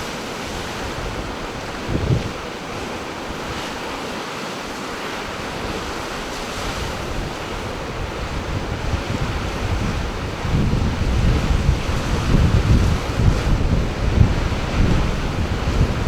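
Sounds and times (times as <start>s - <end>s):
wind buffeting microphone: 0.0s - 4.0s, 5.0s - 16.0s
ocean surf washing: 0.0s - 16.0s.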